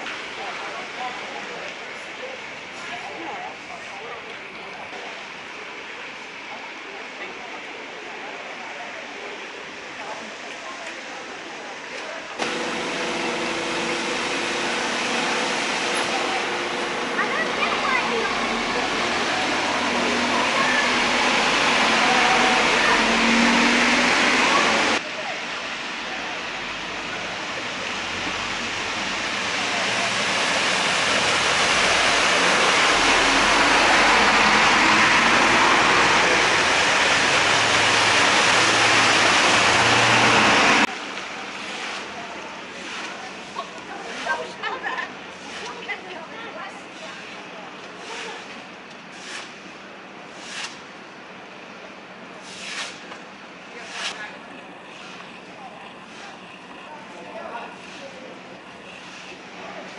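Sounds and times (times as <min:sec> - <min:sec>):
bus engines idling: 0:00.0 - 0:59.9
street noise: 0:00.0 - 0:59.9
tyres rushing through water: 0:00.0 - 0:59.9.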